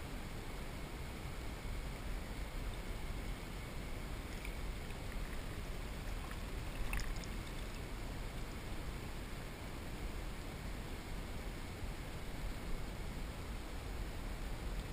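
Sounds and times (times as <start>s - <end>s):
water hissing around a kayak: 0.0s - 14.9s.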